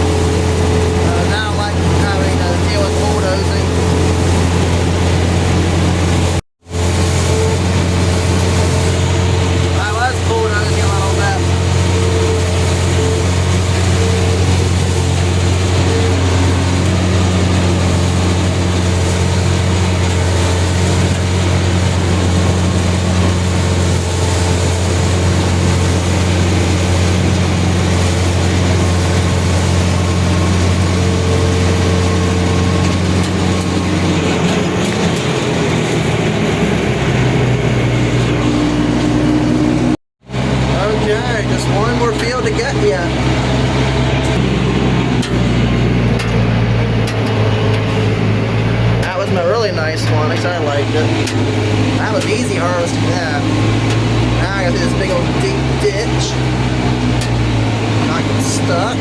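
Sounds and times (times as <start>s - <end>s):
large vehicle engine running: 0.0s - 59.0s.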